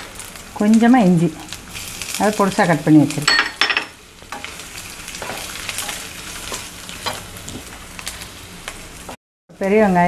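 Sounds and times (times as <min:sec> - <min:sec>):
oil sizzling: 0:00.0 - 0:10.0.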